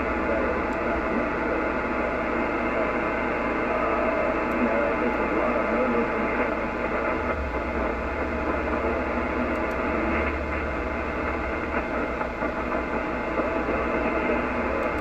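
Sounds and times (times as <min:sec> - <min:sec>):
low steady hum: 0:00.0 - 0:15.0
radio static hiss: 0:00.0 - 0:15.0.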